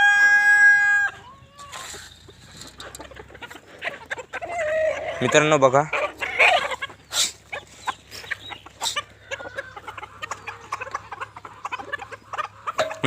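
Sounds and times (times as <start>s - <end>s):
chickens clucking softly: 0.8s - 13.0s.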